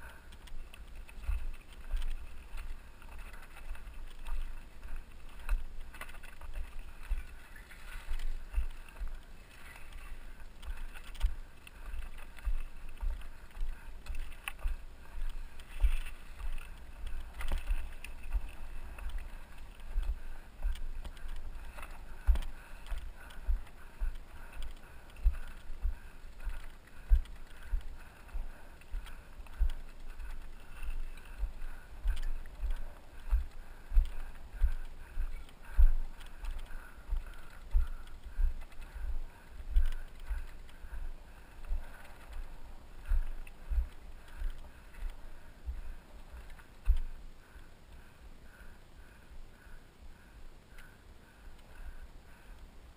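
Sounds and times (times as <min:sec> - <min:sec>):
crunching and rattling clicks: 0:00.3 - 0:47.6.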